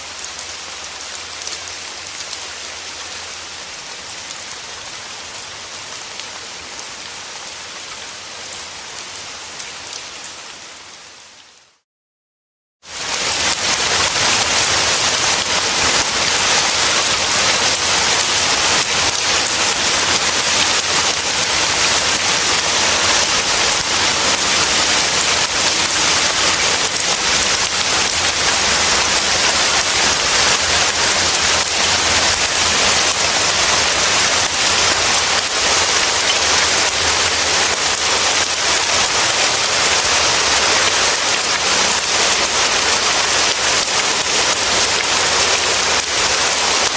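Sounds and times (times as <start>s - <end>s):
rain falling steadily: 0.0s - 11.8s, 12.8s - 46.9s.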